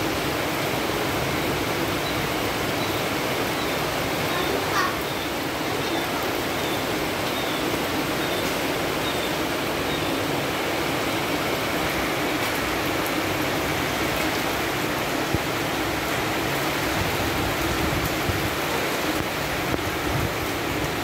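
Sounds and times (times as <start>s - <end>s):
heavy rain on leaves and roof: 0.0s - 21.0s.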